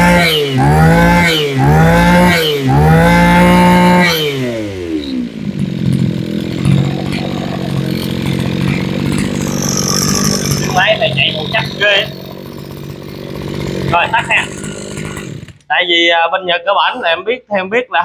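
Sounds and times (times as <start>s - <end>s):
brush cutter engine revving: 0.0s - 15.7s.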